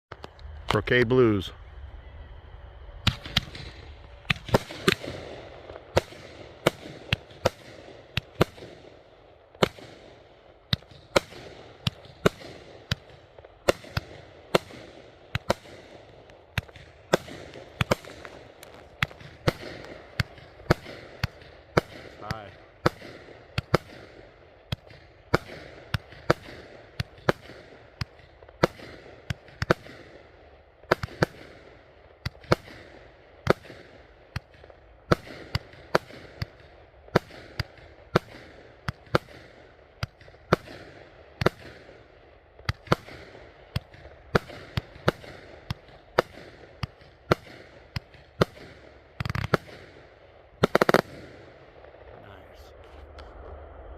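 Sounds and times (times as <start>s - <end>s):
fireworks cake firing reports: 0.1s - 53.9s.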